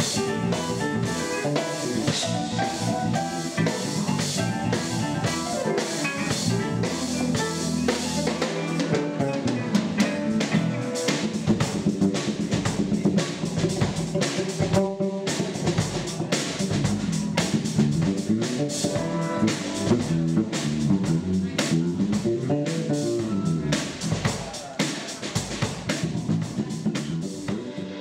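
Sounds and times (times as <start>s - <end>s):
electric bass: 0.0s - 24.4s, 25.6s - 28.0s
electric guitars: 0.0s - 24.4s, 25.4s - 28.0s
drum kit: 0.0s - 28.0s.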